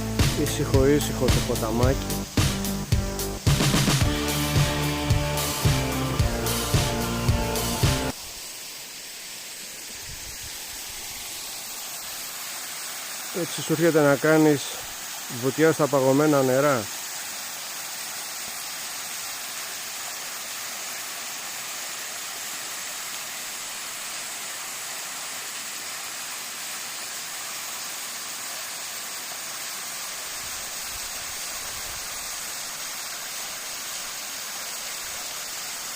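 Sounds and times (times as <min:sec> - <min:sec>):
waterfall splashing: 0:00.0 - 0:35.9.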